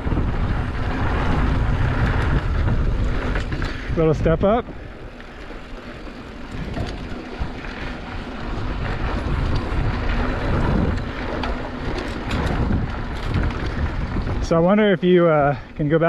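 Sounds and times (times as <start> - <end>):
bike rattling and clicking: 0.0 - 16.0
tyre noise on dirt: 0.0 - 16.0
wind buffeting microphone: 0.0 - 16.0.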